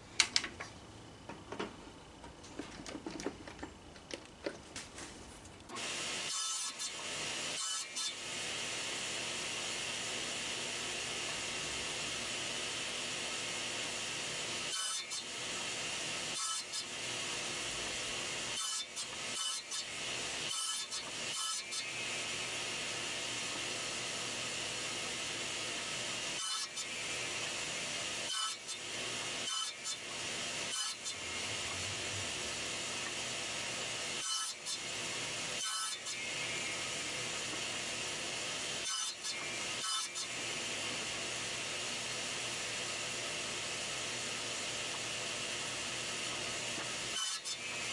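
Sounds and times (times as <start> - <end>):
table saw cutting wood: 5.8 - 42.6, 46.3 - 47.9.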